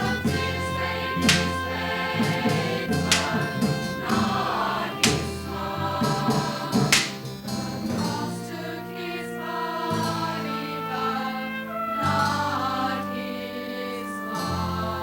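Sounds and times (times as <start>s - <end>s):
choir singing held chords: 0.0s - 15.0s
instrumental accompaniment: 0.0s - 15.0s.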